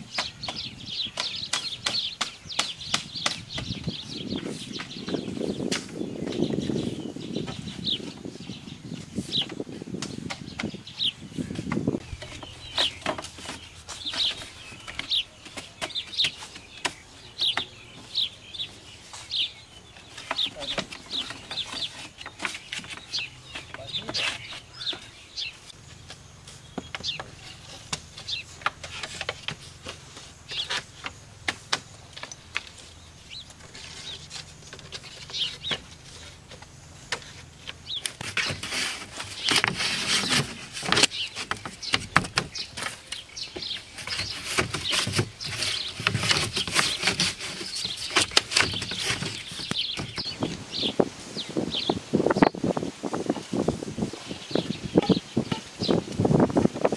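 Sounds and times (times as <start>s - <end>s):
bamboo poles knocking and clattering: 0.0s - 6.7s, 9.1s - 19.3s, 19.9s - 50.6s, 53.1s - 56.9s.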